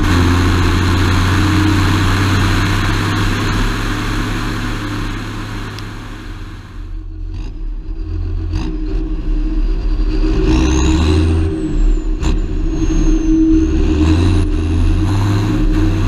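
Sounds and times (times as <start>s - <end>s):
high whine: 0.0s - 16.0s
tractor diesel engine: 0.0s - 16.0s.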